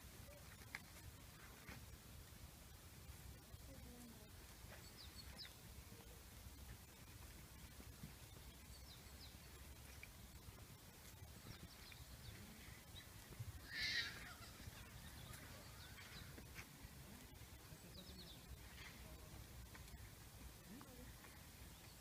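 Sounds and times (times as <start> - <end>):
small birds chirping: 3.3 - 22.0.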